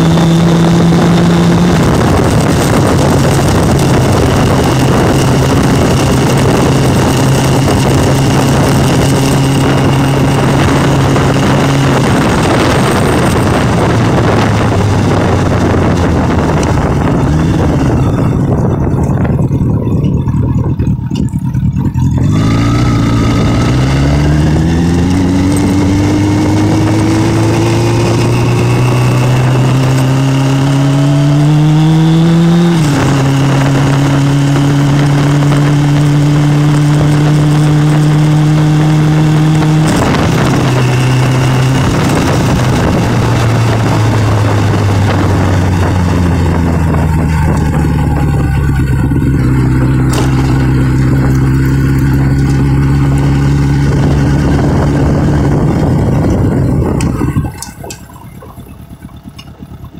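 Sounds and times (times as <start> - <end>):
motorcycle engine accelerating: 0.0 - 59.9
wind on microphone: 0.0 - 59.9.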